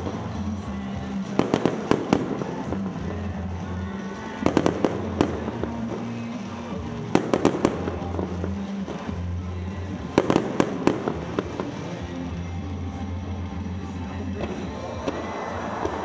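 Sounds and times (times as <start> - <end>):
background music with low notes: 0.0 - 16.0
fireworks bangs: 0.0 - 16.0.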